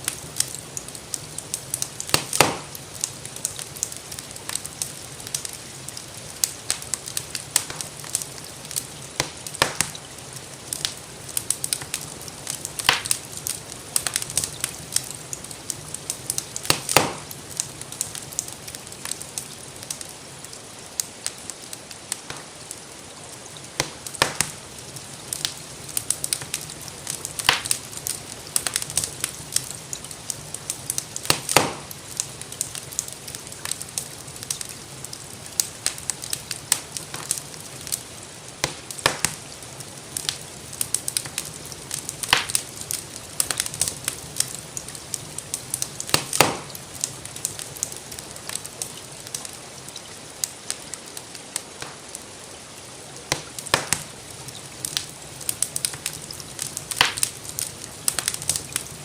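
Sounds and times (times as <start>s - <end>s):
gentle rain hiss: 0.0s - 59.0s
wood fire crackling: 0.0s - 59.0s.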